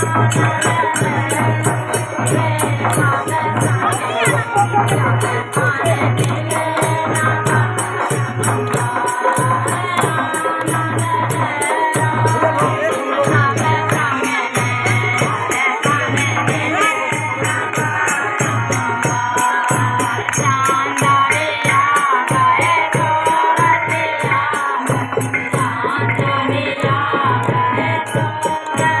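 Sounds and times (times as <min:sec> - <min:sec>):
folk group singing: 0:00.0 - 0:29.0
rattling percussion beat: 0:00.0 - 0:29.0.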